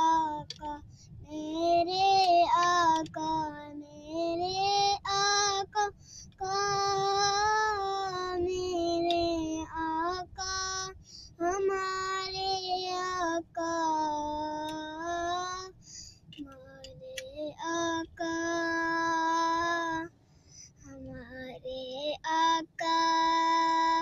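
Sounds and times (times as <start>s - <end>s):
boy singing unaccompanied: 0.0s - 15.8s, 16.4s - 20.1s, 20.9s - 24.0s.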